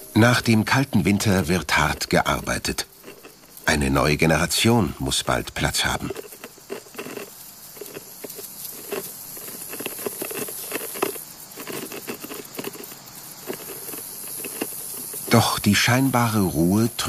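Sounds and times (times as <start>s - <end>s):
load dragged on stone: 0.0s - 15.6s
tiny legs scratching on grit: 0.0s - 16.7s
faint steady hiss: 0.0s - 17.0s.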